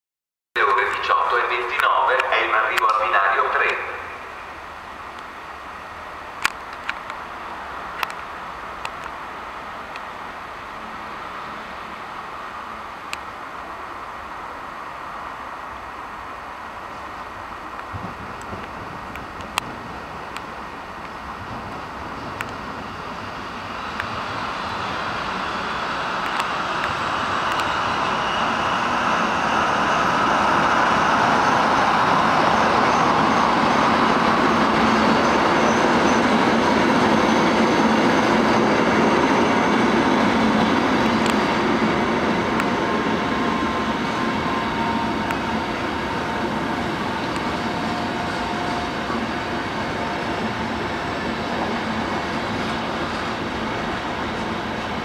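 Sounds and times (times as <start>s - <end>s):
train rumbling past: 0.6s - 55.0s.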